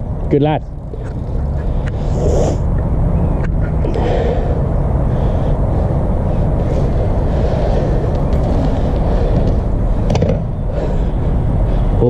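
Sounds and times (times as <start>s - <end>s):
steady low rumbling: 0.0s - 12.0s.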